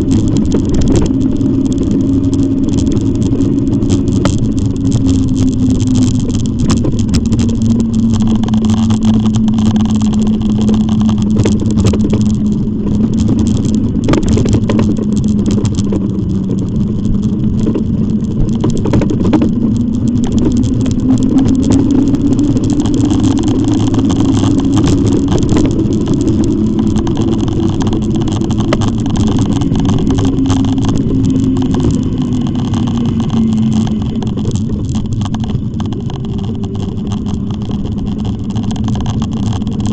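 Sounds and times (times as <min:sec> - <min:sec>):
electric bike motor hum: 0:00.0 - 0:39.9
road and wind noise: 0:00.0 - 0:39.9
small rattles and clicks: 0:00.0 - 0:39.9.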